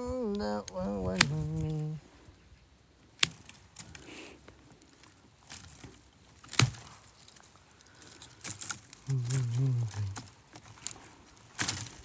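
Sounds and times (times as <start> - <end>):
rustling of cut twigs: 0.0 - 12.0
pruning shears snipping branches: 0.7 - 2.0, 3.1 - 12.0.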